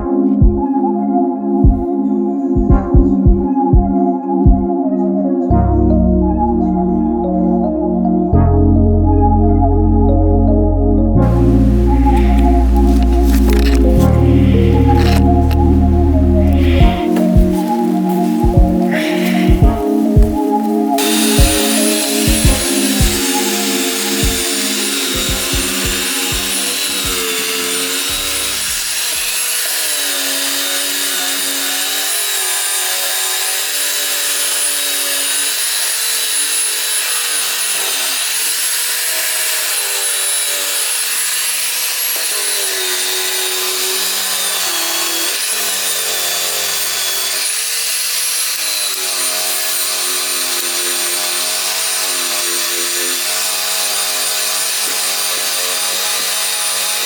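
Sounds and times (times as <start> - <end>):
power tool grinding metal: 11.2 - 57.0.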